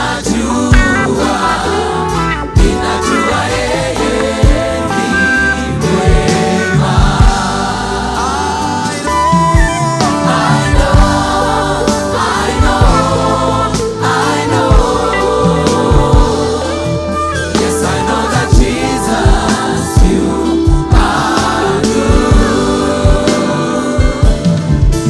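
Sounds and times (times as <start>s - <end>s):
bass: 0.0s - 25.0s
drum beat: 0.0s - 25.0s
group singing gospel song: 0.0s - 25.0s.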